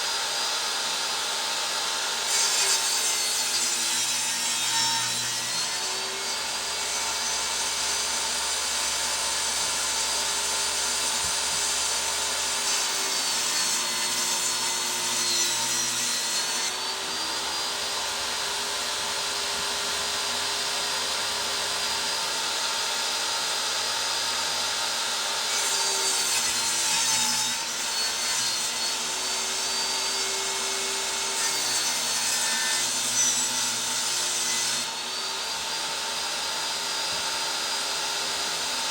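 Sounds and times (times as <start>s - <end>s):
electric saw ripping wood: 0.0s - 38.9s.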